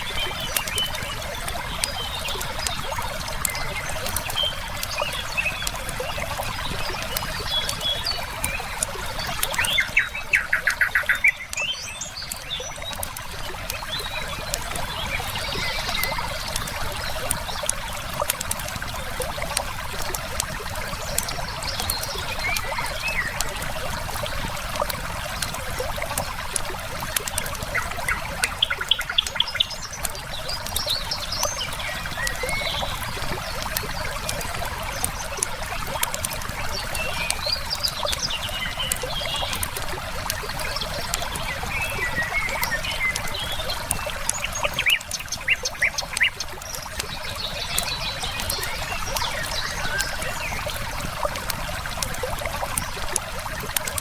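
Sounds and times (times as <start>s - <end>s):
river running: 0.0s - 54.0s
songbirds calling: 0.0s - 54.0s
wood fire crackling: 0.0s - 54.0s.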